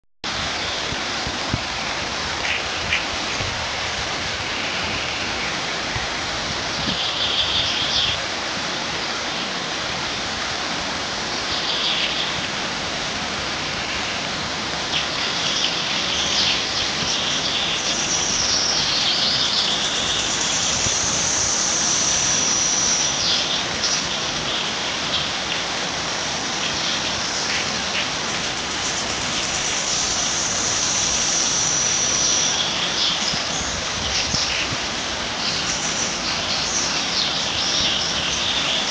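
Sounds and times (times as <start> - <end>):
steady rushing hiss: 0.3 - 38.9.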